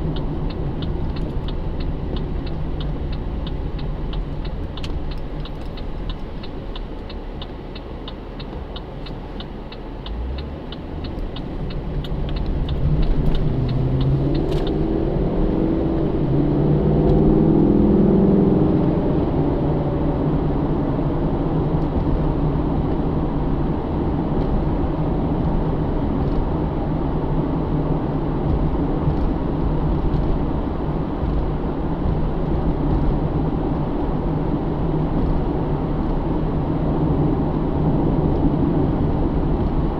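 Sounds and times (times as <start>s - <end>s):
car engine accelerating: 0.0s - 39.9s
road rumble: 0.0s - 39.9s
turn signal ticking: 0.0s - 39.9s.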